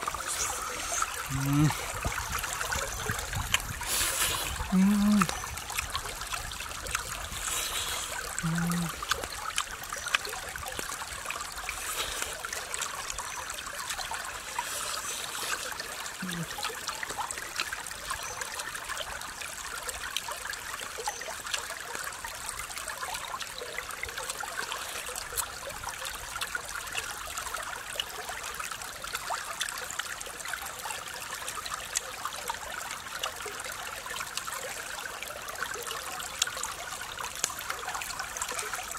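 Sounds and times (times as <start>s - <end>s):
stream rippling over rocks: 0.0s - 38.9s.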